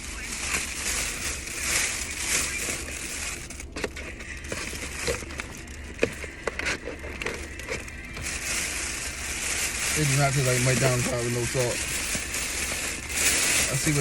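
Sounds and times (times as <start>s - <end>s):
paper packaging crinkling: 0.0s - 14.0s.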